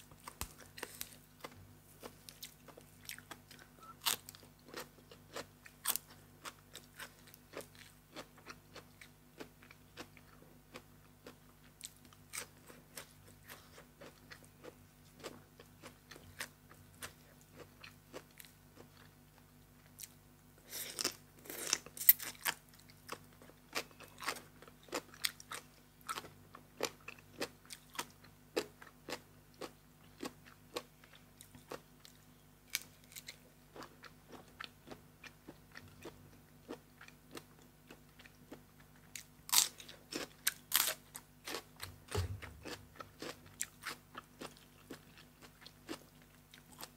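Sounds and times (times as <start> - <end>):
person crunching and chewing: 0.1 - 19.2, 19.8 - 46.9.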